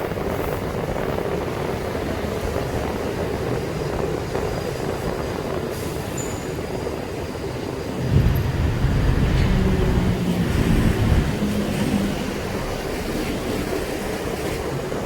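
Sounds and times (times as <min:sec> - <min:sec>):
surrounding traffic: 0:00.0 - 0:15.0
wind and road noise: 0:00.0 - 0:15.0.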